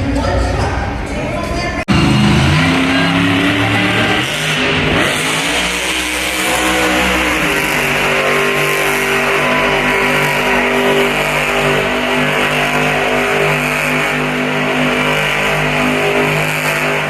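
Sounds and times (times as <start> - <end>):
monster truck engine running: 0.0 - 17.0.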